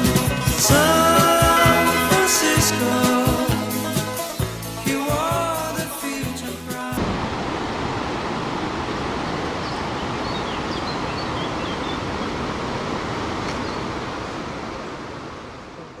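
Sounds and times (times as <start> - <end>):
waterfall rushing: 0.0 - 4.4, 6.9 - 16.0.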